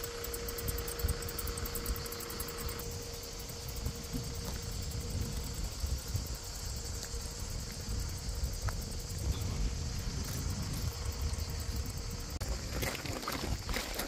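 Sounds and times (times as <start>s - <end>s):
high-pitched insect chorus: 0.0s - 14.0s
wind buffeting microphone: 0.2s - 14.0s.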